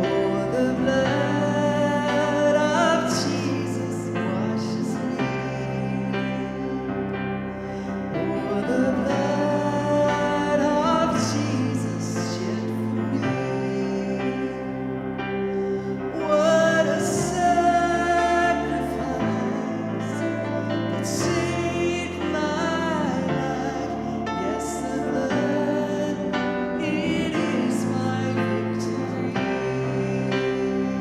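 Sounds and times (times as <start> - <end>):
people singing: 0.0 - 31.0
sustained instrumental chords: 0.0 - 31.0.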